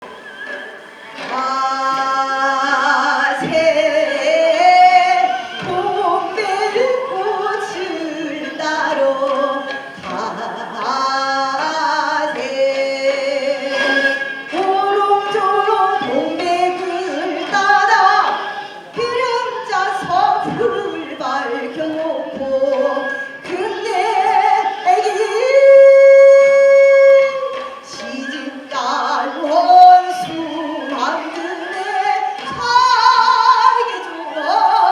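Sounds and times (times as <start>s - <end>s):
musical accompaniment: 0.0s - 34.9s
woman singing folk song: 1.2s - 34.9s.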